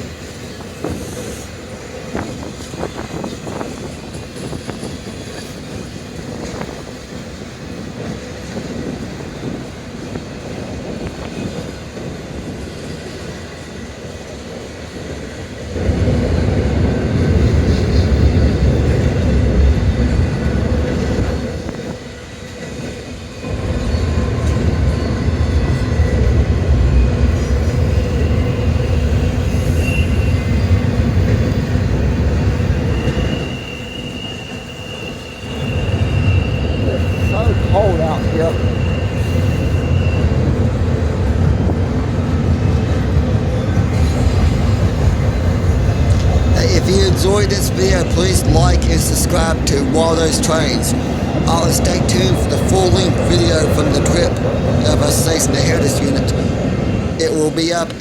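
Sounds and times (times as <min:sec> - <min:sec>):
freight train rumbling on rails: 0:00.0 - 0:58.0.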